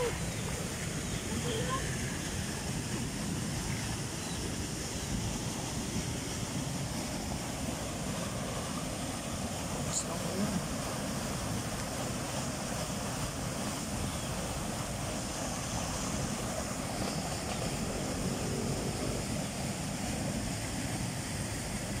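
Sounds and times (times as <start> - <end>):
floodwater rushing down creek: 0.0 - 22.0.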